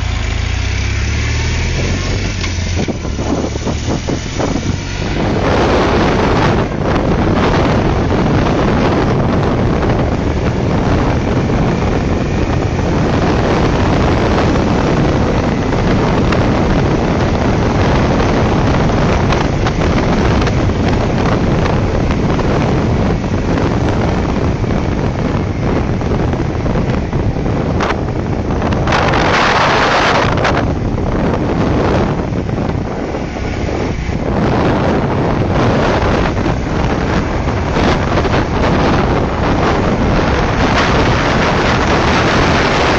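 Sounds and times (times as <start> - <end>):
motorcycle engine running: 0.0 - 42.9
road noise: 0.0 - 42.9
wind buffeting microphone: 0.0 - 42.9.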